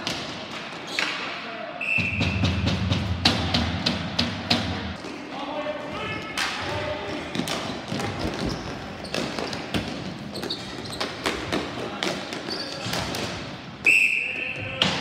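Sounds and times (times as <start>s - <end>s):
hockey sticks and ball clacking: 0.0s - 15.0s.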